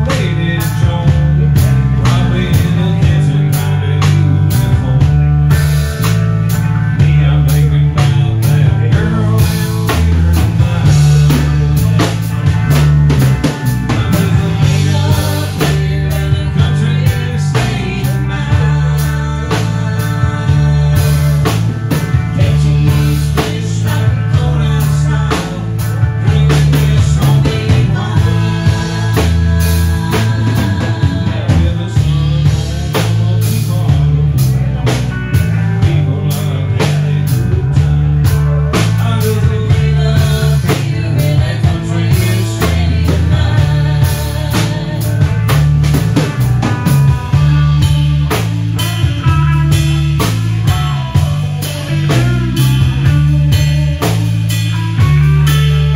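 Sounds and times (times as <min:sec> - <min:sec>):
bass guitar: 0:00.0 - 0:55.9
drum kit hits: 0:00.0 - 0:55.9
guitar: 0:00.0 - 0:55.9.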